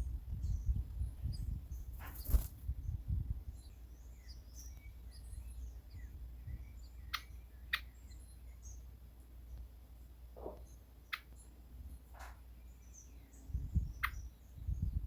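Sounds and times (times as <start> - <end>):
bird chirps: 0.0 - 9.6, 10.4 - 15.0
outdoor background noise: 0.0 - 15.0.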